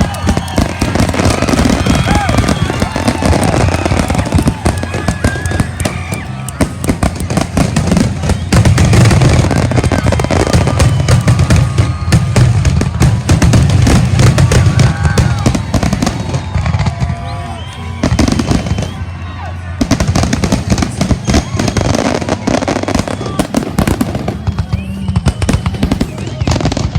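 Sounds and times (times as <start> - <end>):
fireworks crackling bangs: 0.0 - 26.9
fireworks heavy low booms: 0.0 - 26.9.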